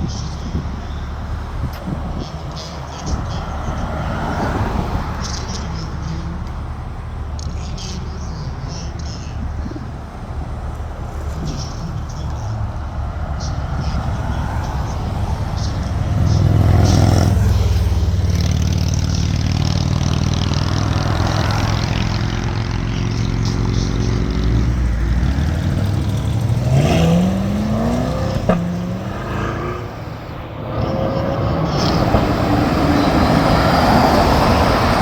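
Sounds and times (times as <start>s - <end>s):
car engine revving: 0.0s - 35.0s
car engine running: 0.0s - 35.0s.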